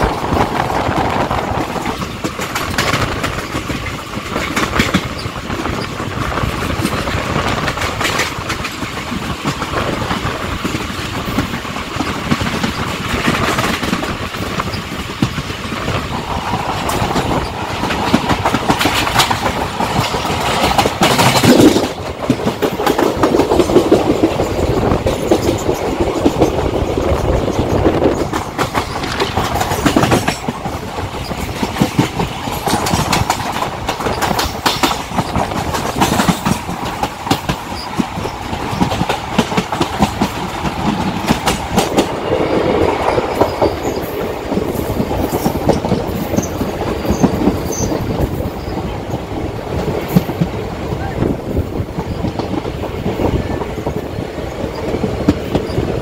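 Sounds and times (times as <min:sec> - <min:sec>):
train rumbling: 0:00.0 - 0:56.0
wheel clatter over rail joints: 0:00.0 - 0:56.0.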